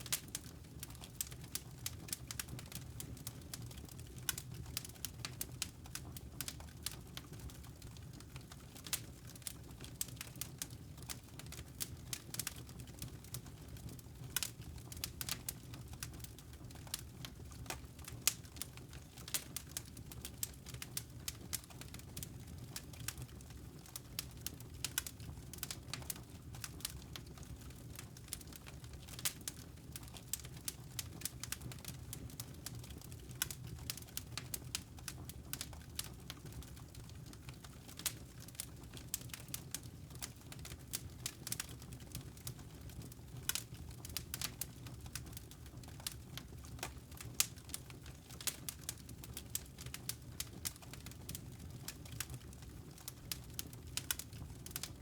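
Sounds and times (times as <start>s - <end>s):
fire snapping and popping: 0.0s - 55.0s
wood fire crackling: 0.0s - 55.0s.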